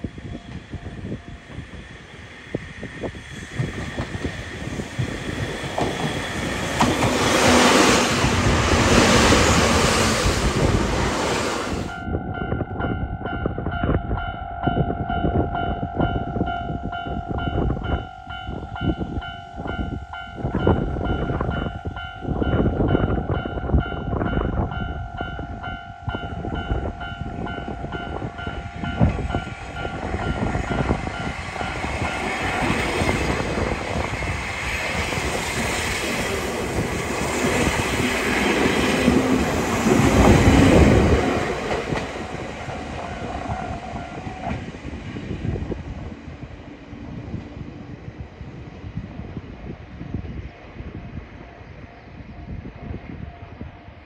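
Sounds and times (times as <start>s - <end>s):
electric train wheel noise: 0.0s - 12.4s, 13.6s - 54.0s.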